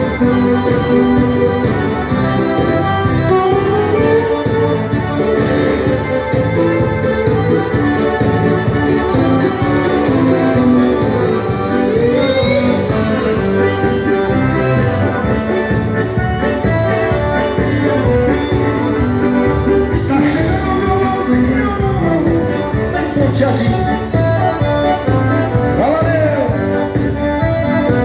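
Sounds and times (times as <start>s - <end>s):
dance-band music: 0.0s - 28.0s.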